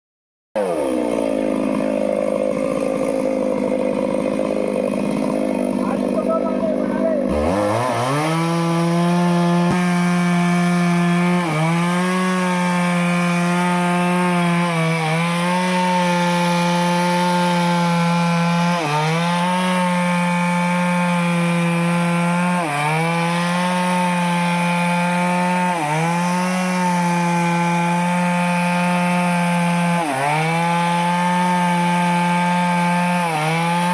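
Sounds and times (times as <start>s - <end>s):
chainsaw cutting wood: 0.6s - 33.9s.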